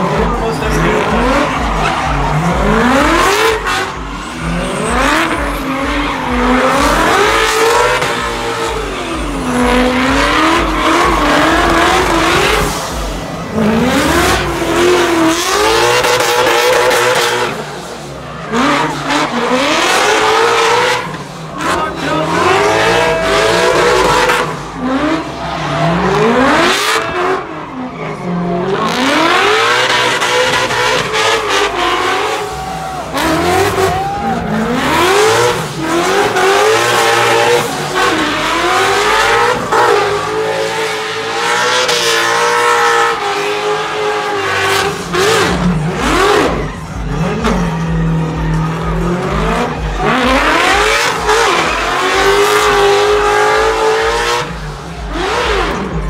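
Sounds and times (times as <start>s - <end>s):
car engine revving hard: 0.0s - 56.0s
tires squealing on pavement: 0.0s - 56.0s.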